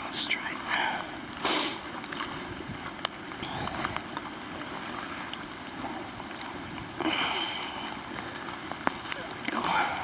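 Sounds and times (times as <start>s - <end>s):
steady rain: 0.0s - 10.0s
wind: 0.0s - 10.0s.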